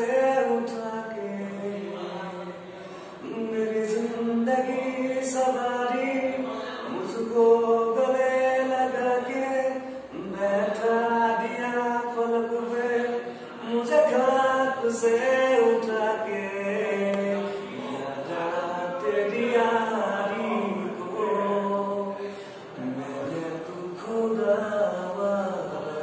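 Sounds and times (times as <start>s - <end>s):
man singing unaccompanied: 0.0s - 26.0s.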